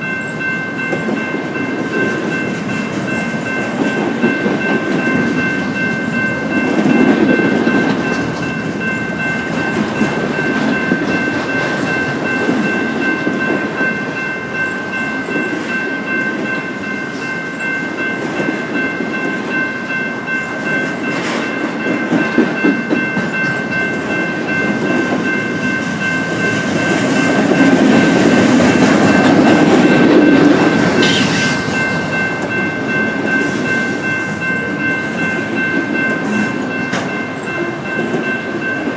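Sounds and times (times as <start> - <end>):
freight train wheels clacking: 0.0 - 38.9
high ringing tones: 0.0 - 38.9.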